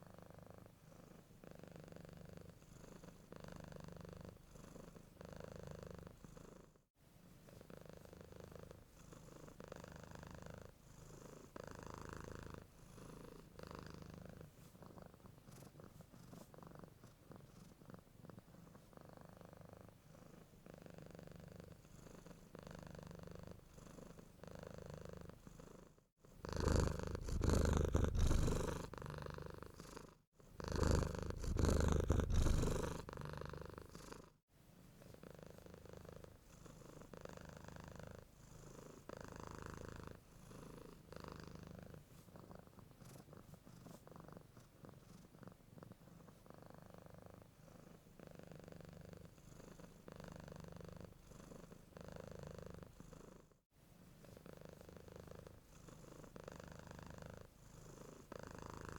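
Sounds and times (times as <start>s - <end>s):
cat purring: 0.0s - 58.9s.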